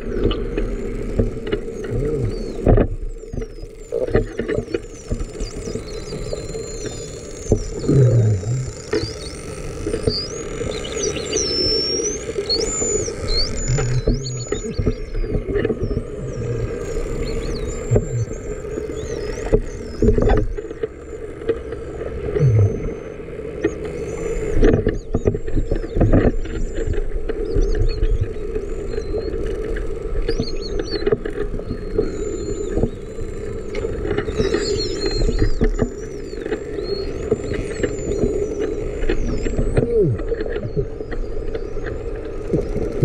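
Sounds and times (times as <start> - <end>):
low hum: 0.0 - 43.0
whales whistling underwater: 0.0 - 43.0.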